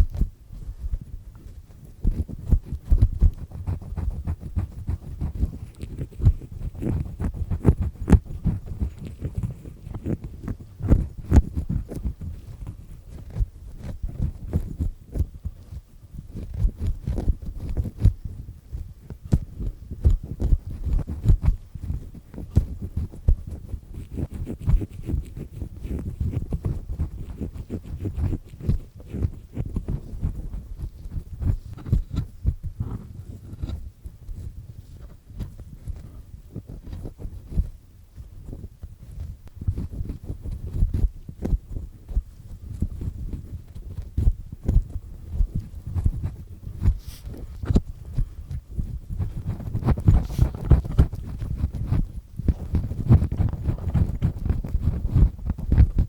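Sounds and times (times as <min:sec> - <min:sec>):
earpick scraping inside ear: 0:00.0 - 0:15.3, 0:16.2 - 0:18.4, 0:19.1 - 0:37.7, 0:38.4 - 0:56.0.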